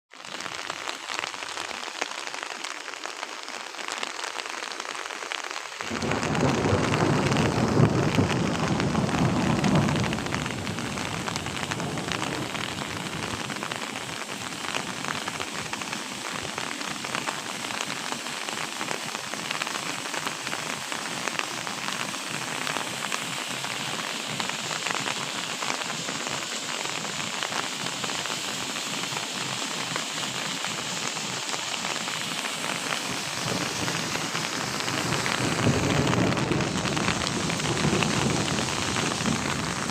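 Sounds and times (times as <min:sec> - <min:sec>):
heavy rain: 0:00.1 - 0:39.9.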